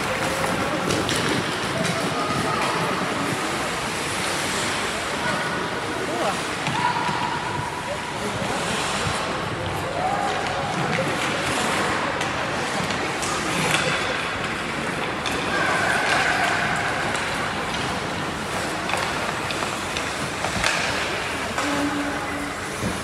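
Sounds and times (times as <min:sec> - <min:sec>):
skates scraping on ice: 0:00.0 - 0:07.2, 0:10.5 - 0:23.0
hockey sticks and puck clacking: 0:00.0 - 0:07.4, 0:08.5 - 0:23.0
spectators' voices: 0:00.0 - 0:23.0.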